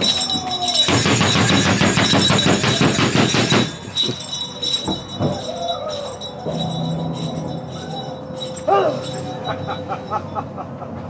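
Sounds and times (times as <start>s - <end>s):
rising and falling cry: 0.0s - 2.8s, 3.9s - 10.6s
jingle bells shaken: 0.0s - 10.5s.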